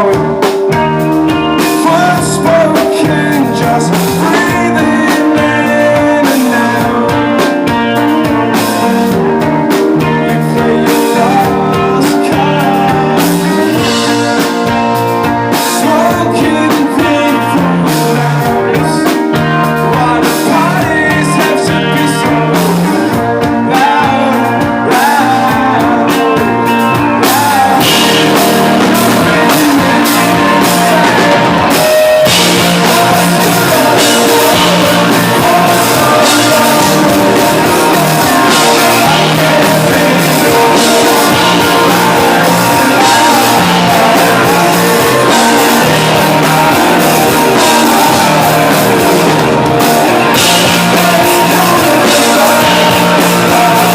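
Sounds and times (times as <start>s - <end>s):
drum kit: 0.0s - 53.9s
electric guitar: 0.0s - 53.9s
person singing: 0.0s - 53.9s.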